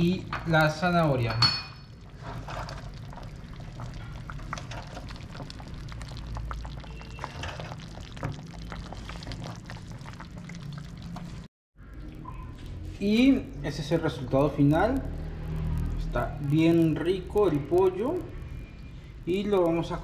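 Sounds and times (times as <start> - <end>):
stew bubbling in a pot: 0.0 - 20.0.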